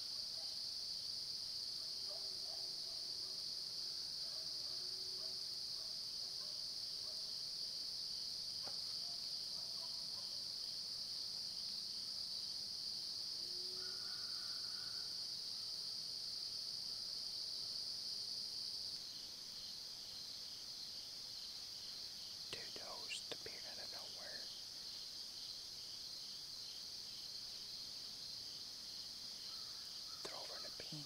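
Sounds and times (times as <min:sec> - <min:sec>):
crickets and insects chorus: 0:00.0 - 0:31.0.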